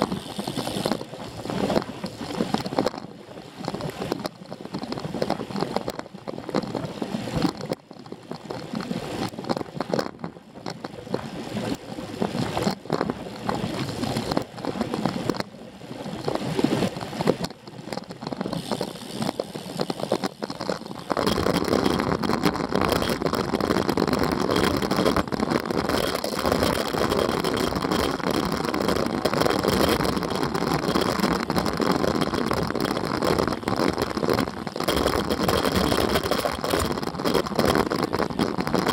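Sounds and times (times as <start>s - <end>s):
wind rushing over microphone: 0.0s - 3.0s, 8.5s - 38.9s.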